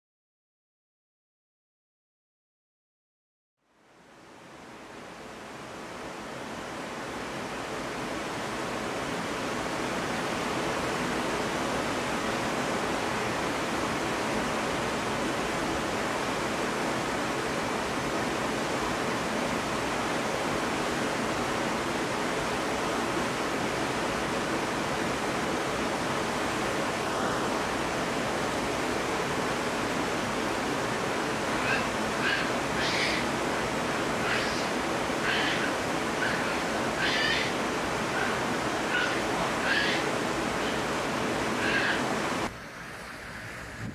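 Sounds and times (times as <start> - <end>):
mountain stream rushing: 3.8 - 43.9.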